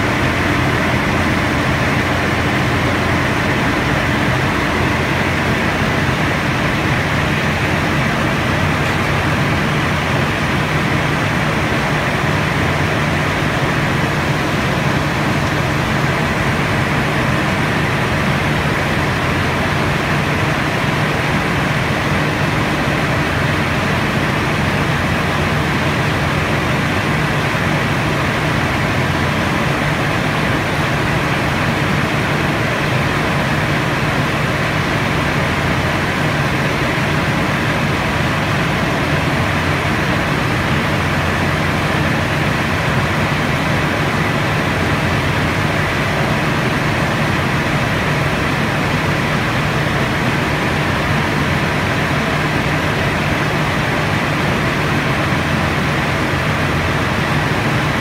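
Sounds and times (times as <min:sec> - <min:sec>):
truck engine low drone: 0:00.0 - 0:58.0.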